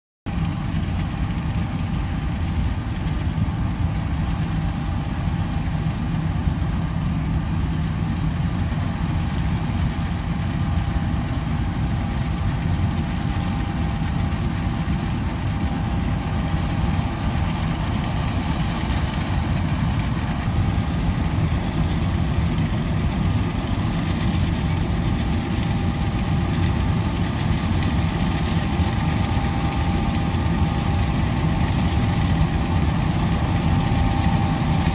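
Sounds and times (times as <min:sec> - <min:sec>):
faint steady whine: 0:00.3 - 0:34.9
farm machinery engine rumble: 0:00.4 - 0:34.9.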